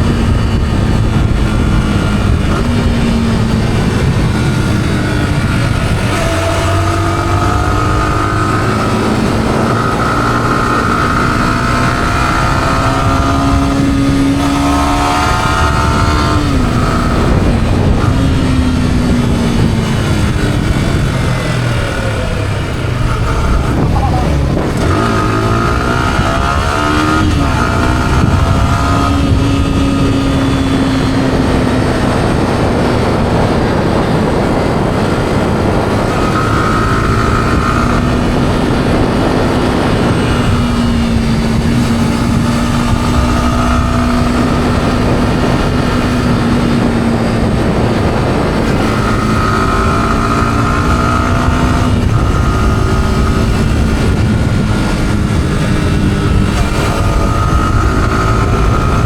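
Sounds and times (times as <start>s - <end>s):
motorcycle engine while riding: 0.0s - 59.0s
wind rushing over microphone: 0.0s - 59.0s.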